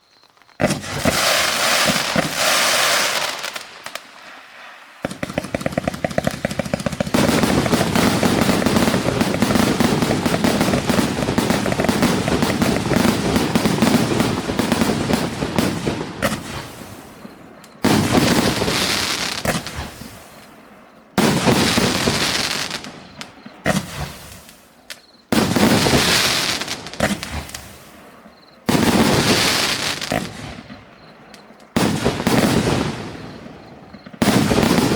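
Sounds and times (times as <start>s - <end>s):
dense firework crackling: 0.4s - 34.9s
firework launches and bursts: 0.6s - 31.1s.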